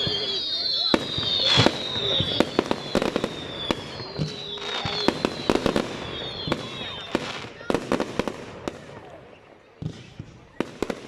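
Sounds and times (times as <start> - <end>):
fireworks whistling: 0.0 - 9.1
fireworks bangs and crackles: 0.0 - 11.0.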